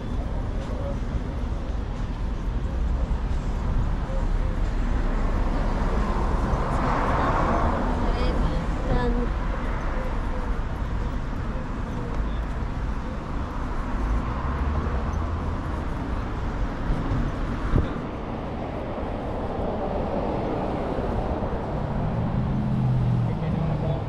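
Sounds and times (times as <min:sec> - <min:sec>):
low engine hum: 0:00.0 - 0:24.0
traffic rumble: 0:00.0 - 0:24.0.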